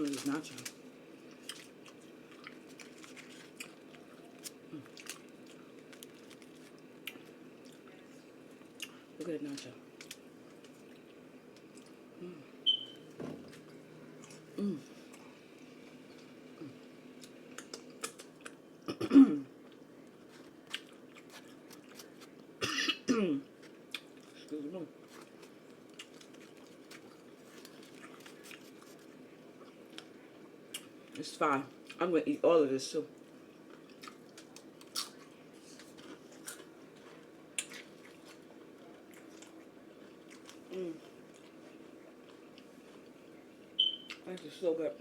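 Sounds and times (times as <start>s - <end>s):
chewing and crunching chips: 0.0s - 12.0s, 13.5s - 18.7s, 19.6s - 22.6s, 23.5s - 32.4s, 33.0s - 44.9s.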